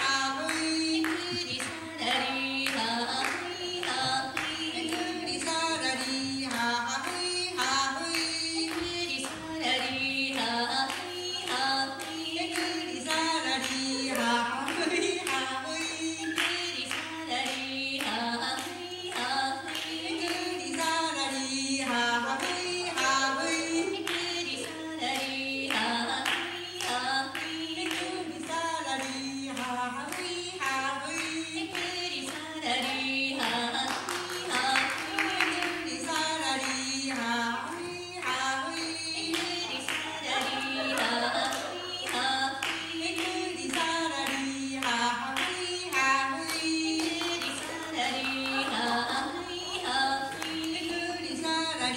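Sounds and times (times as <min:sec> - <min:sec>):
hand claps: 0:00.0 - 0:51.9
women singing: 0:00.0 - 0:51.9.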